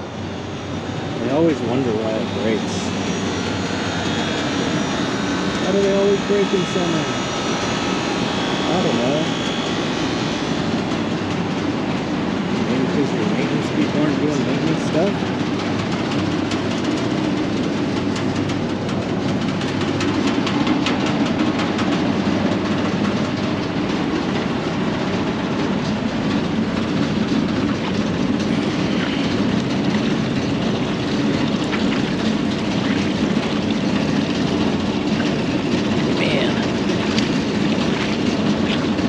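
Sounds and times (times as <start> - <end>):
mechanical hum of fans: 0.0 - 39.0.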